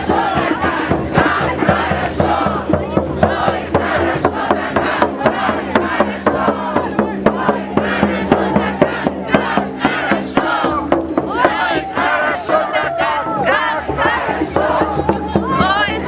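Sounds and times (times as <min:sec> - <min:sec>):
crowd singing and shouting: 0:00.0 - 0:16.0
quick drum beat: 0:00.0 - 0:16.0.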